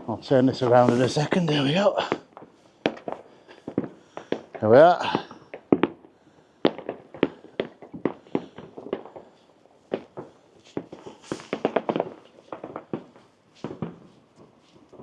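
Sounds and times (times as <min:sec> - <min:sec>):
firecrackers crackling: 0:00.0 - 0:15.0
fireworks bangs and pops: 0:00.0 - 0:15.0
firework hiss: 0:00.5 - 0:05.6, 0:06.6 - 0:14.1.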